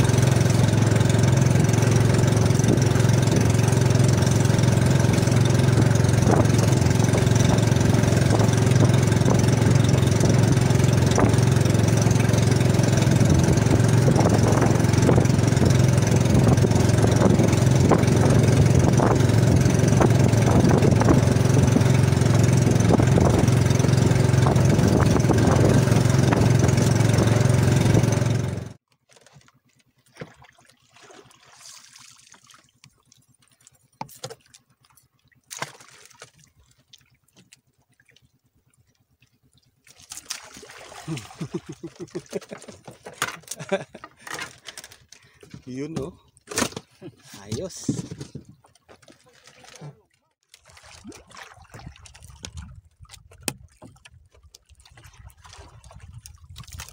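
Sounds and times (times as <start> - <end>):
boat engine droning: 0.0 - 56.9.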